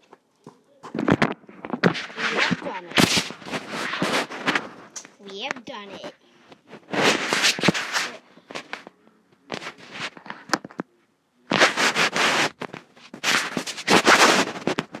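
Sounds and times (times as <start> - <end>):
microphone handling rustles: 0.8 - 10.8, 11.5 - 15.0.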